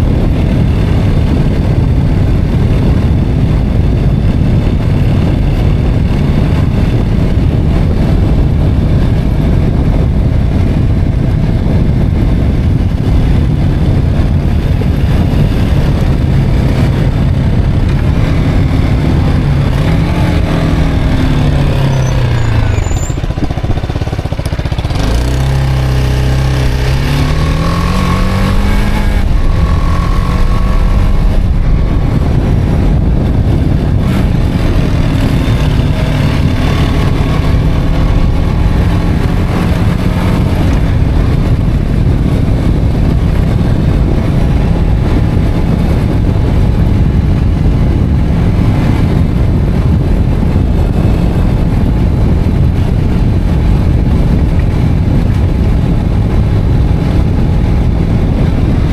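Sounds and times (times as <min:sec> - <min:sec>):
motorcycle engine running: 0:00.0 - 0:58.9
wind rushing on microphone: 0:00.0 - 0:58.9.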